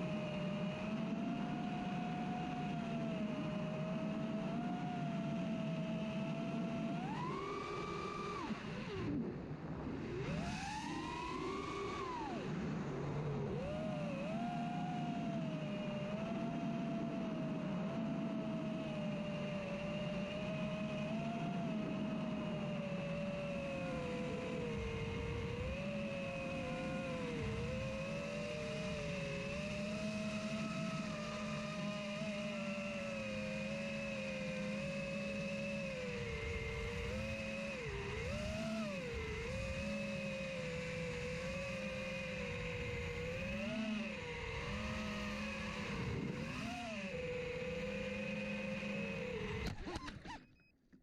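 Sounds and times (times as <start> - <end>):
quadcopter motors whining: 0.0 - 9.3, 10.0 - 50.7.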